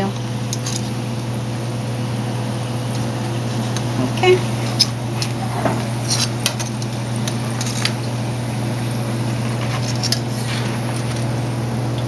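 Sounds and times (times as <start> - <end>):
tortillas sizzling in oil: 0.4 - 12.0.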